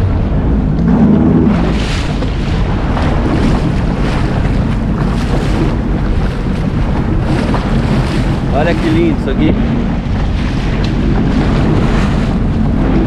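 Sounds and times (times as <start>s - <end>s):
jet ski engine running: 0.0s - 13.0s
water splashing against hull: 0.0s - 13.0s
wind buffeting microphone: 0.0s - 13.0s.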